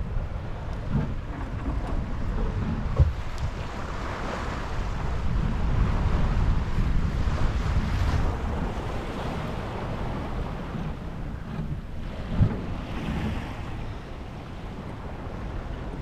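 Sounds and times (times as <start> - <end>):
sea water rushing: 0.0 - 16.0
wind buffeting microphone: 0.0 - 16.0.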